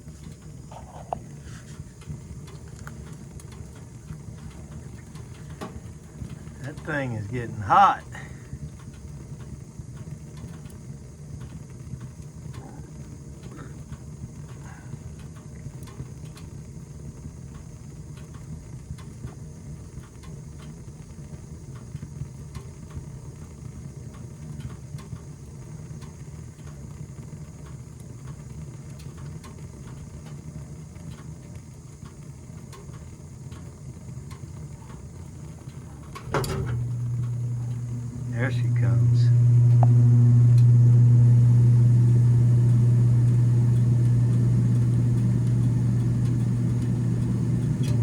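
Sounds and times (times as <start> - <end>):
furnace ticking: 0.0 - 48.0
gas furnace burner rumble: 0.0 - 48.0.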